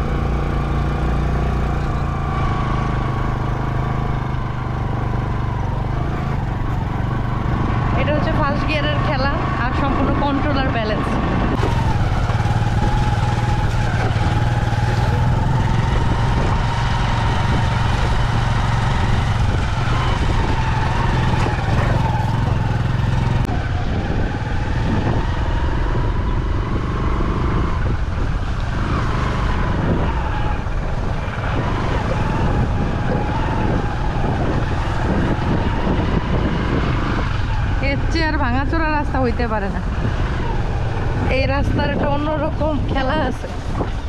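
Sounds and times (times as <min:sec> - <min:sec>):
vehicle engine drone and whine: 0:00.0 - 0:44.0.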